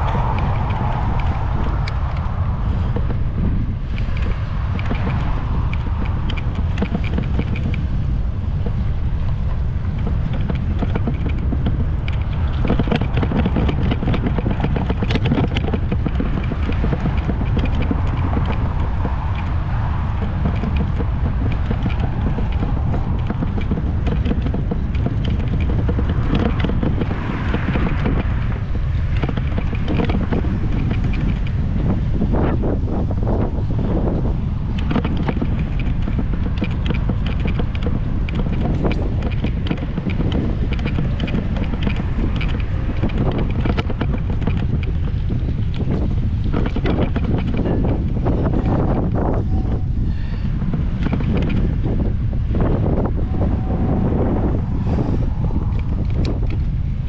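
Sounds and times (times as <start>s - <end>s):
faint clicks: 0.0s - 3.2s, 3.9s - 7.9s, 8.6s - 32.0s, 34.7s - 49.4s, 50.4s - 51.8s
wind blowing across microphone: 0.0s - 57.0s.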